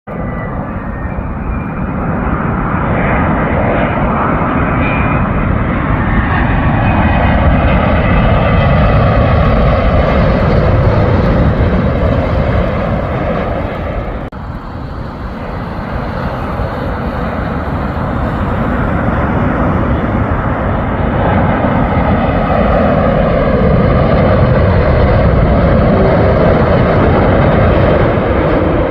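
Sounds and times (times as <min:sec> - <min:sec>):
jet airliner roar passing: 0:00.1 - 0:28.9.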